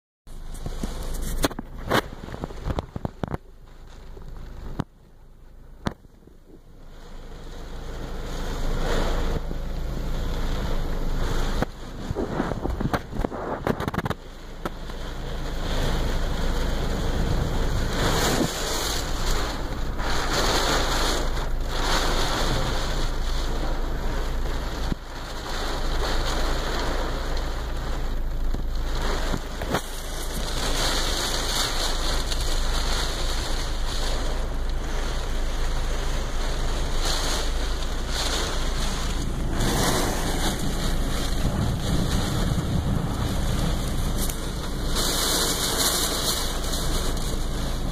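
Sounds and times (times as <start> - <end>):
rain and wind on car roof: 0.2 - 47.9.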